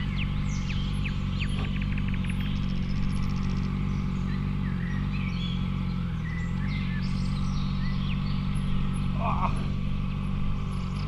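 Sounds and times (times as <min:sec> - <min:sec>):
birds chirping: 0:00.0 - 0:11.0
motorcycle engine running: 0:00.0 - 0:11.0.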